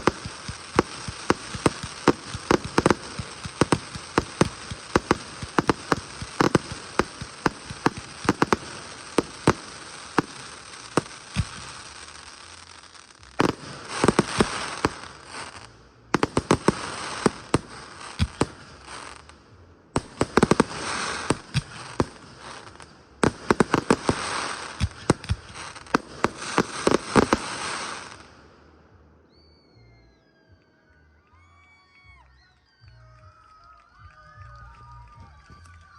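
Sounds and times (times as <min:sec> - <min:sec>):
firework crackling: 0:00.0 - 0:28.8.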